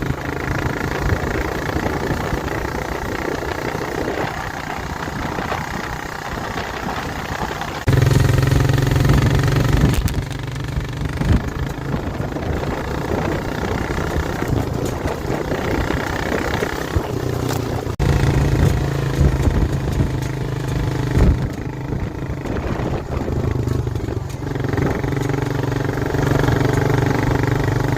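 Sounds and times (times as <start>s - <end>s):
atv engine revving: 0.0s - 27.9s.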